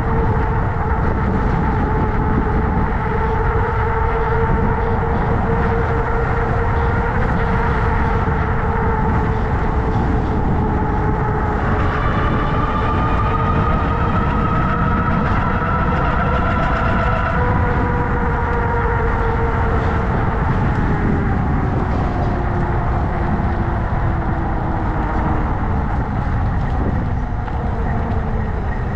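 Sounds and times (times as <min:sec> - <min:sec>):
wind and road rumble: 0:00.0 - 0:28.9.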